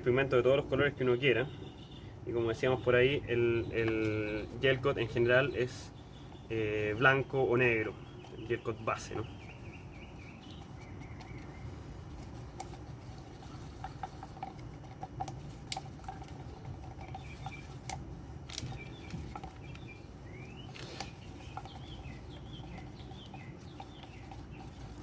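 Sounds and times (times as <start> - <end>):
birds chirping: 0.0 - 25.0
stick stirring in container: 0.1 - 25.0.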